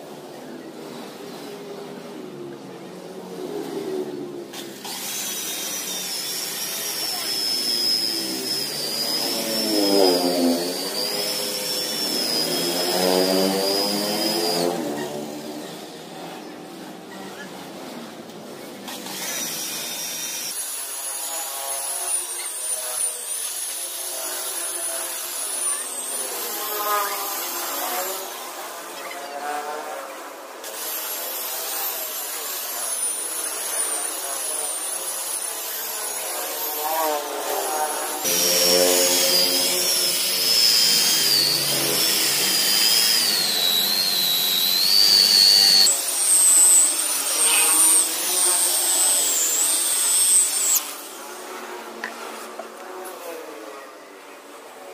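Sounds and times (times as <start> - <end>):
electric car polisher motor whine: 3.6 - 17.6, 18.6 - 53.4.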